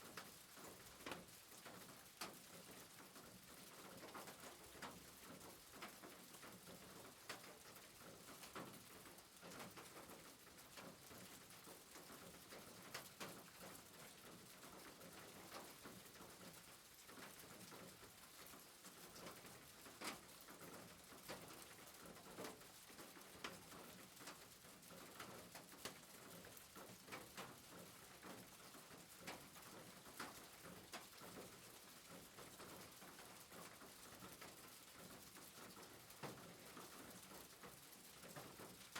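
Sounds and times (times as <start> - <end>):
soft rain hiss and taps: 0.0 - 38.9.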